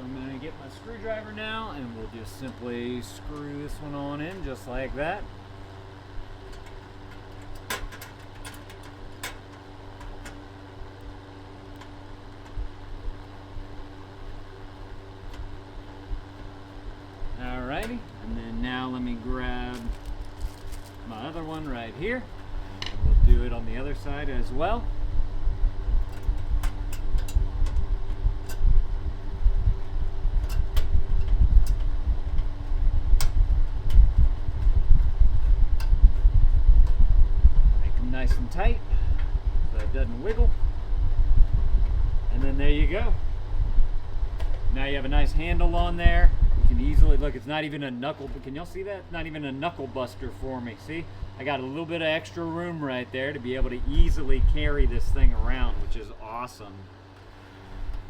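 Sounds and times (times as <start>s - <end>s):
space heater fan humming: 0.0s - 58.0s.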